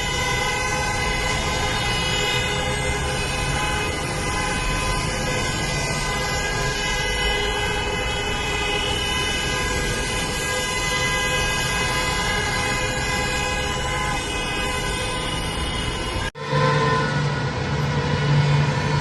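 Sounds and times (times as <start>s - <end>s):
car horns honking: 0.0s - 19.0s
traffic rumble: 0.0s - 19.0s.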